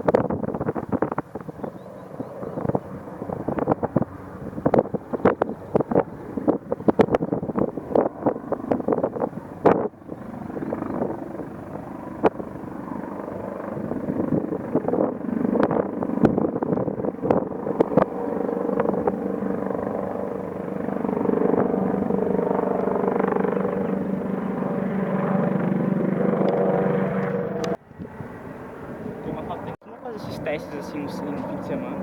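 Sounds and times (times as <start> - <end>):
helicopter rotors and turbines: 0.0 - 32.0.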